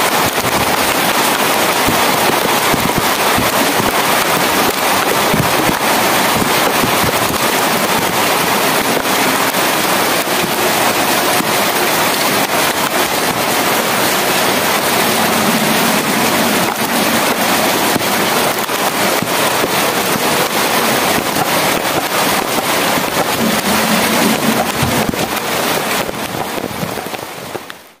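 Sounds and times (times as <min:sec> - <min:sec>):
rain patter: 0:00.0 - 0:28.0.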